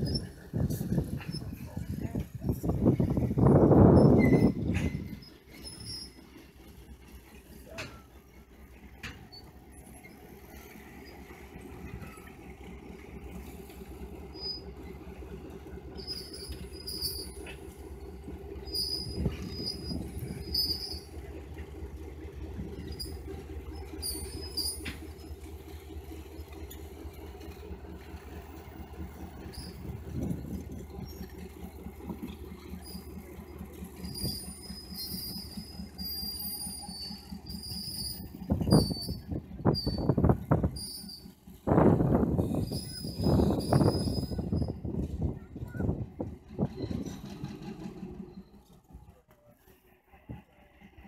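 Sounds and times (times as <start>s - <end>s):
diesel locomotive running: 0.0s - 51.0s
wheels knocking and squeaking: 0.0s - 51.0s.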